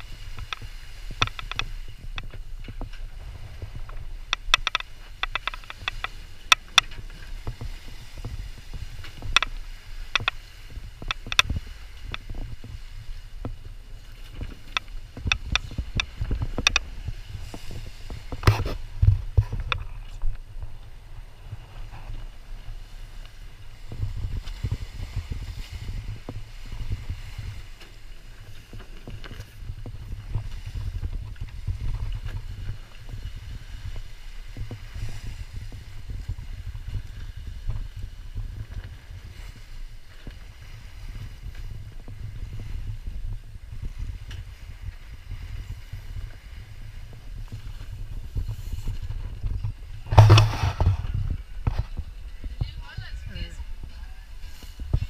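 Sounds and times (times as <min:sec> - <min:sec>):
sea water rushing along hull: 0:00.0 - 0:55.0
wind buffeting microphone: 0:00.0 - 0:55.0.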